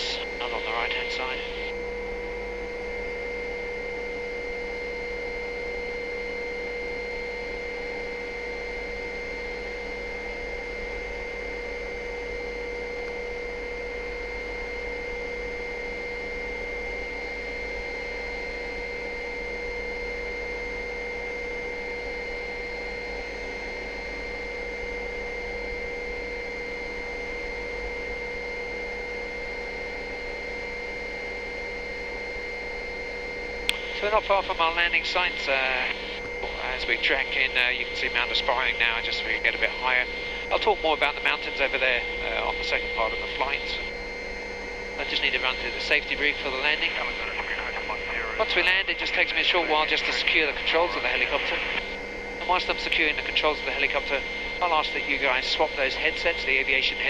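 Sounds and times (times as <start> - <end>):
helicopter drone: 0.0 - 25.8, 31.4 - 57.0.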